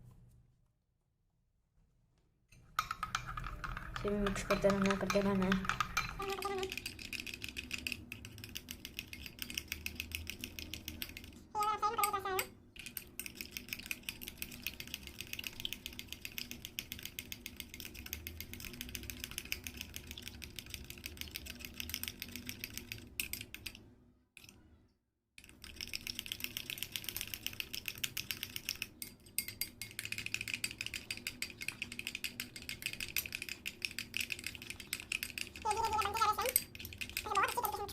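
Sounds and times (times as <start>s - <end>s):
spoon stirring slime in bowl: 2.6s - 23.8s, 25.4s - 37.9s.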